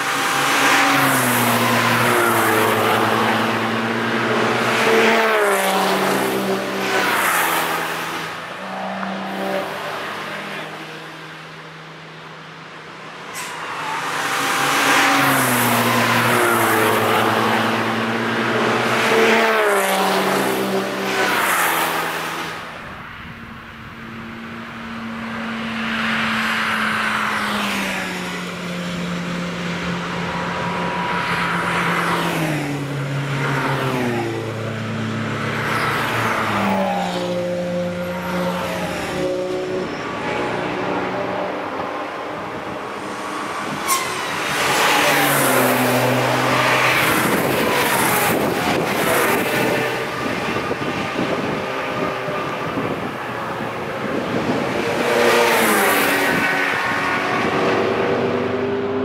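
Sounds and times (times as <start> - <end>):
cars accelerating past: 0.0 - 59.0.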